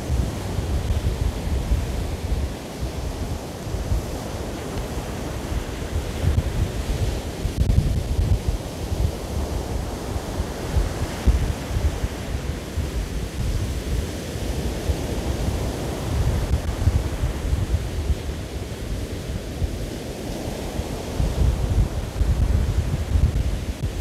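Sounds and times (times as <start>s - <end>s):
surf on a pebble beach: 0.0s - 24.0s
wind buffeting microphone: 0.0s - 24.0s.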